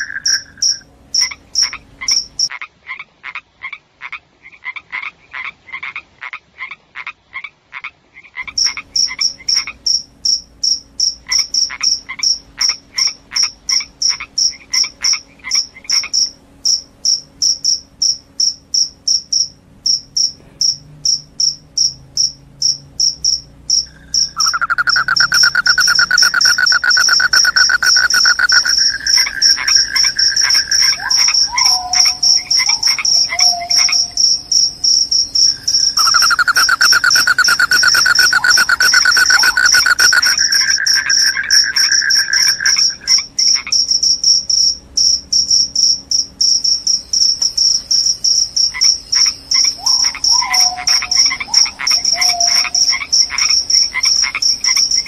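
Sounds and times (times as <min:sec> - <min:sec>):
crickets chirping: 0:00.0 - 0:02.5, 0:08.5 - 0:55.0
continuous insect trill: 0:00.0 - 0:02.6, 0:08.4 - 0:55.0.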